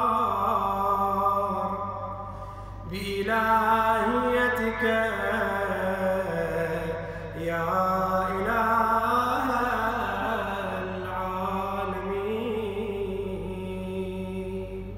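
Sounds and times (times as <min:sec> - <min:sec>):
man chanting melodically: 0:00.0 - 0:02.1, 0:02.8 - 0:14.9.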